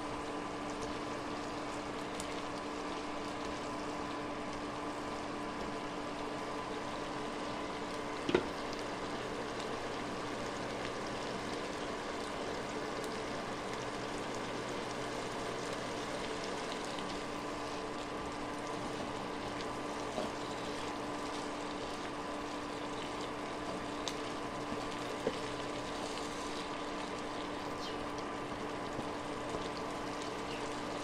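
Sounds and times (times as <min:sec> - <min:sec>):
constant hum: 0:00.0 - 0:31.0
meat frying in a pan: 0:00.0 - 0:31.0.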